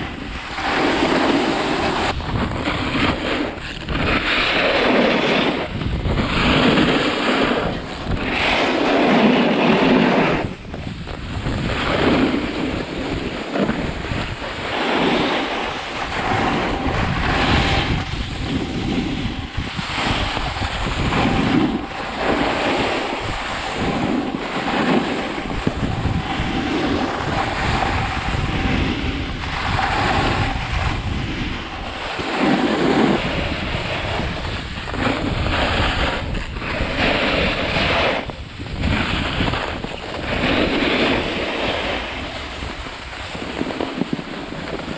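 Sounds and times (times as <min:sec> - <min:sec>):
snowboard scraping over snow: 0:00.0 - 0:44.9
wind rushing on microphone: 0:00.0 - 0:44.9.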